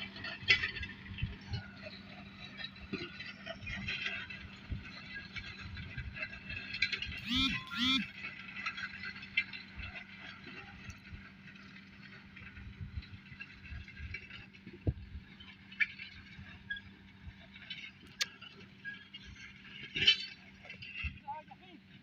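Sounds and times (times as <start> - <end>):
distant tractor engine humming: 0.0 - 21.2.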